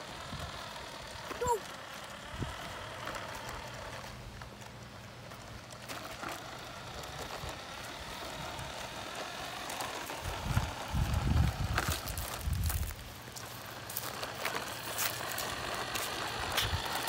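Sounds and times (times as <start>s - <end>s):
plastic wheels rolling on concrete: 0.0s - 17.0s
toy electric motor whirring: 0.0s - 17.0s.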